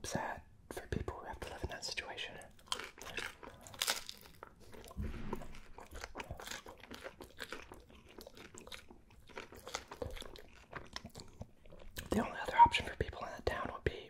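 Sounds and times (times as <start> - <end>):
chewing crisp pizza crust: 0.9 - 14.0.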